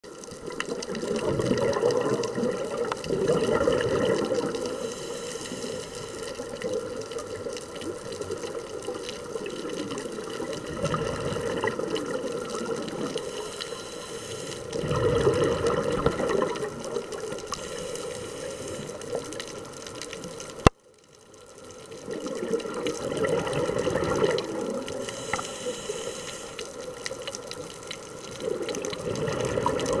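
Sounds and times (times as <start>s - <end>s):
underwater bubbles exhaled: 0.0s - 20.7s, 21.4s - 30.0s
steady watery hiss: 0.1s - 30.0s.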